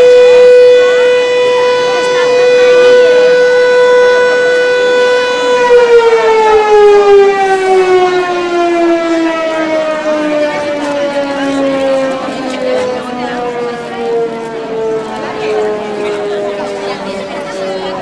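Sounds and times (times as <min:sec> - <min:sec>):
mechanical siren winding down: 0:00.0 - 0:16.8.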